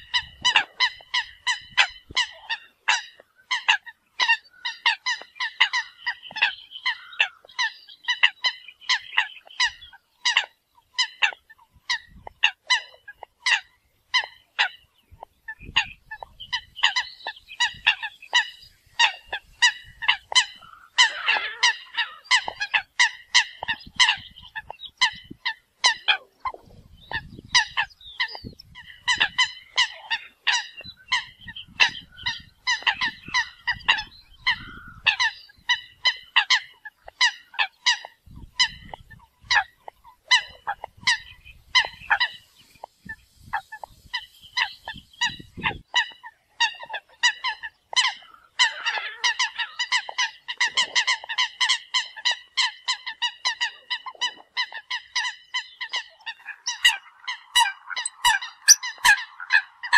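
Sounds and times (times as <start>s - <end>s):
coots honking calls: 0.0s - 59.9s.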